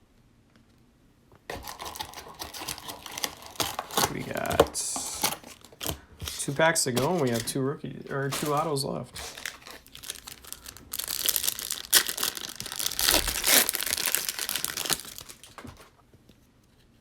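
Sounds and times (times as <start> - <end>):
foil wrapper tearing and crinkling: 1.5 - 15.9.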